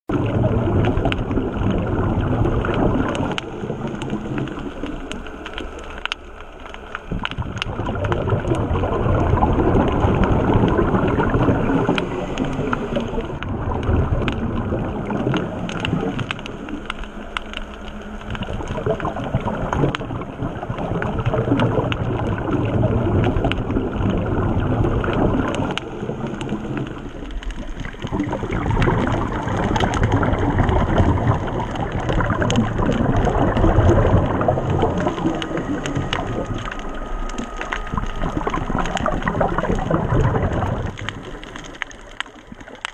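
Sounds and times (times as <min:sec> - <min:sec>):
muffled underwater rushing water: 0:00.1 - 0:42.9
small crackling clicks: 0:00.1 - 0:42.9.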